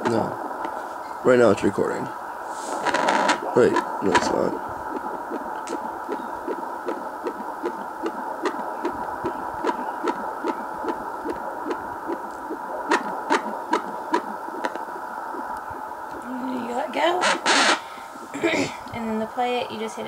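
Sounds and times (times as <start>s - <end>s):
steady hiss and hum: 0.0s - 20.0s
fetal heartbeat whooshing pulses: 2.8s - 19.4s.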